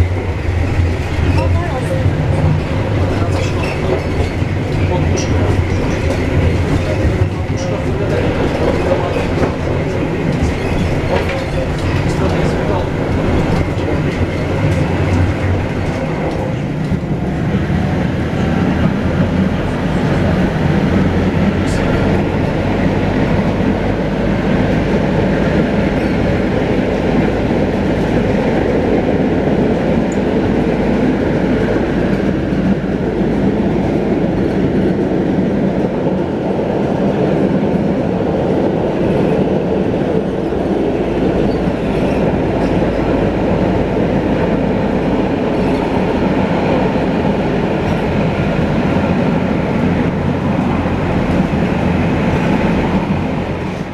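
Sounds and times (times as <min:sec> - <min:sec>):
tram rumbling along track: 0:00.0 - 0:53.9.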